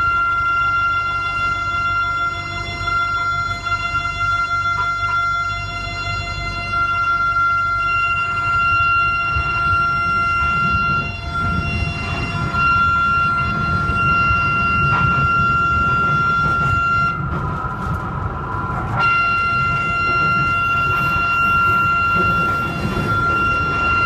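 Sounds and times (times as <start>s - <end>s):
low rumble of train: 0.0s - 24.0s
train wheels screeching: 0.0s - 24.0s.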